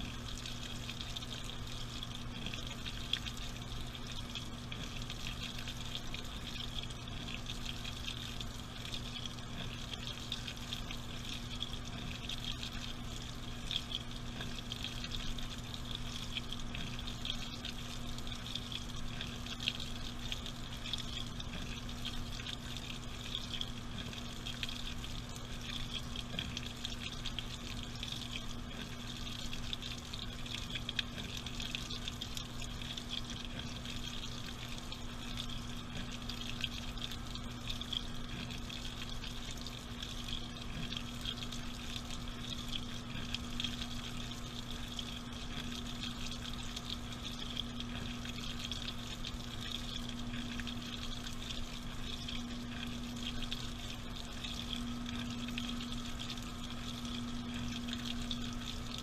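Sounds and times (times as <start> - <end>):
constant low hum: 0.0 - 59.0
water rushing into washing machine: 0.0 - 59.0.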